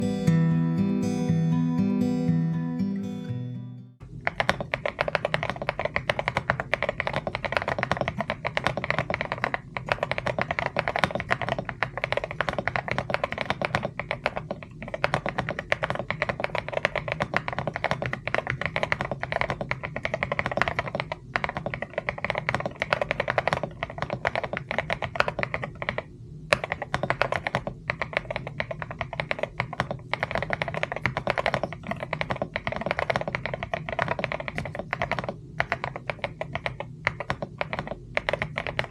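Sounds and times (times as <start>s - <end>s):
typing on a mechanical keyboard: 4.0s - 38.9s.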